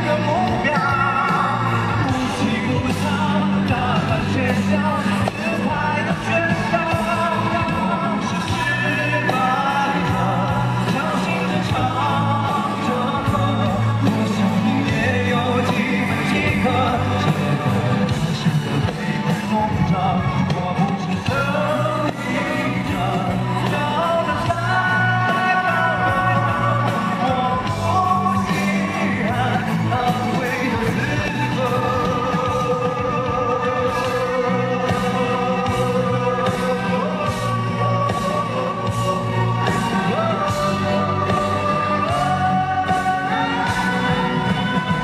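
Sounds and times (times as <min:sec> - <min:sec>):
backing music with heavy bass: 0:00.0 - 0:45.0
man singing into a microphone: 0:00.0 - 0:45.0.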